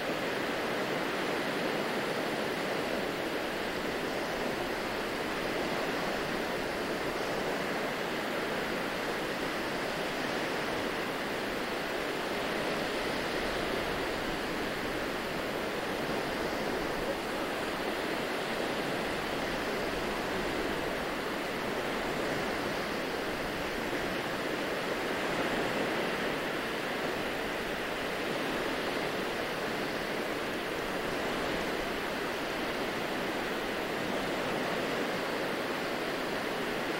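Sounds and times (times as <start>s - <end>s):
small waves on sandy beach: 0.0s - 36.9s.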